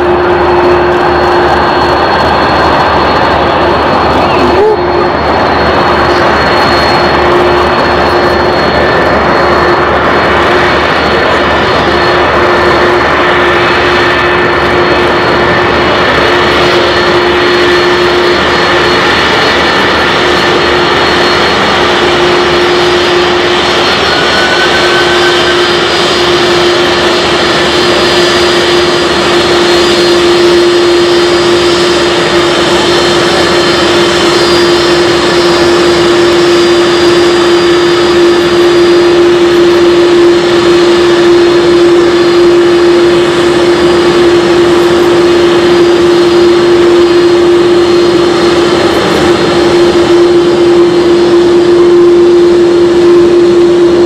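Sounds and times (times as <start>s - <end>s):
constant low hum: 0.0s - 54.0s
jet engine whine and rush: 0.0s - 54.0s.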